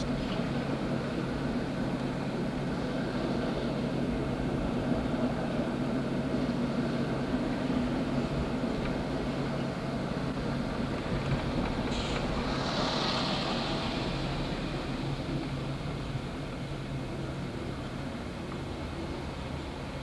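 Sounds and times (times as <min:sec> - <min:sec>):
vehicle interior running hum: 0:00.0 - 0:20.0.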